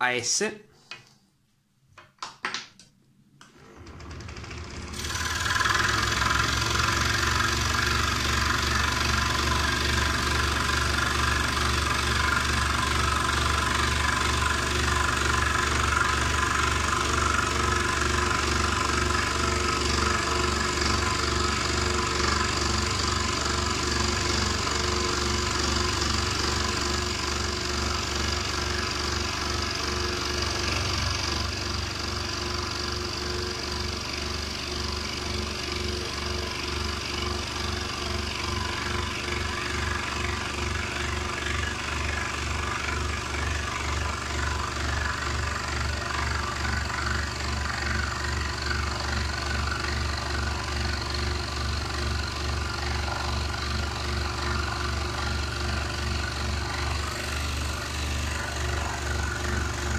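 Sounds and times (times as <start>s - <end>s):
scroll saw motor hum: 3.5s - 59.9s.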